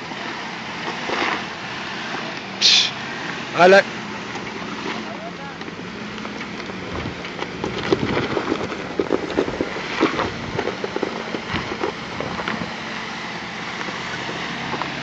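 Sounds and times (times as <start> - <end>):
tyres crunching over rocks: 0.0 - 2.6, 3.2 - 15.0
low engine hum: 0.0 - 15.0.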